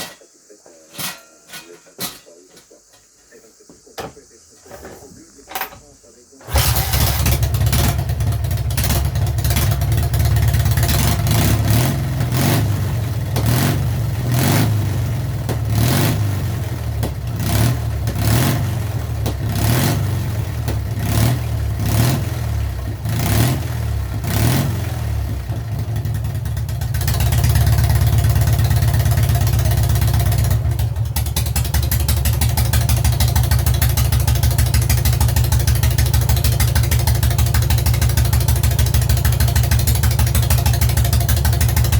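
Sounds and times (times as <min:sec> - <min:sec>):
motorcycle engine revving and idling: 0:06.5 - 0:41.9.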